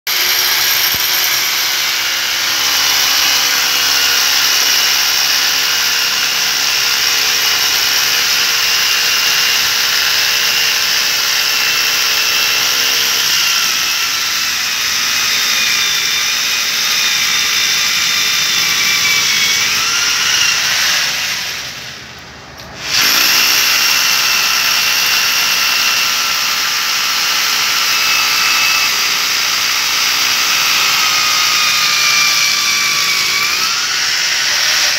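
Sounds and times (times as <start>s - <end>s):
rotary hammer drilling into concrete: 0.1s - 34.9s.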